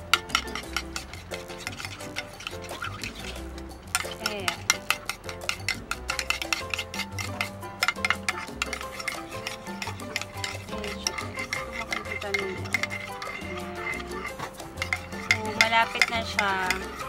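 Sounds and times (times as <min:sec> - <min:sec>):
background music: 0:00.0 - 0:17.0
metal spoon whisking in plastic bowl: 0:00.0 - 0:17.0.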